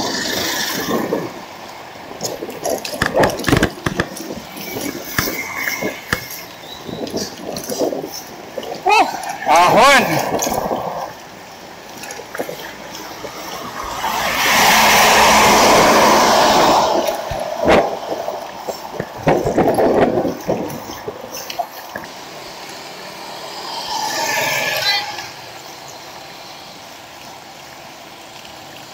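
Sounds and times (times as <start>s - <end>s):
wind and road rush: 0.0s - 28.9s.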